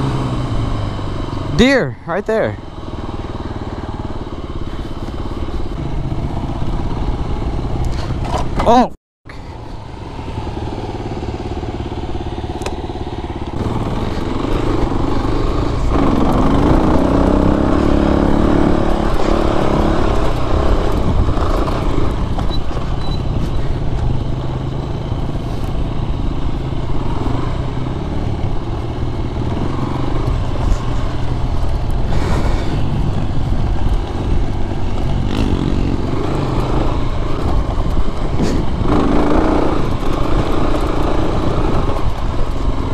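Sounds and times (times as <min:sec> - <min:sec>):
dirt bike engine revving: 0:00.0 - 0:08.6, 0:09.9 - 0:42.9.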